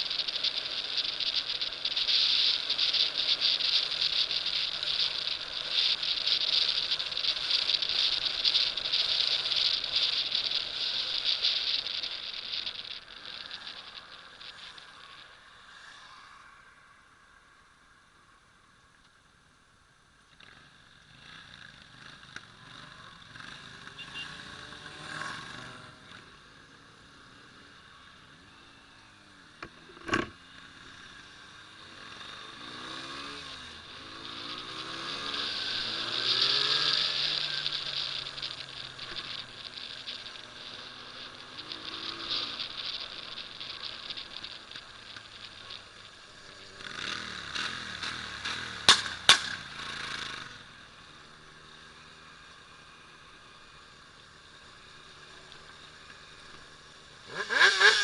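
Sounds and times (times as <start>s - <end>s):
motorcycle engines revving: 0.0s - 17.3s, 20.3s - 58.0s.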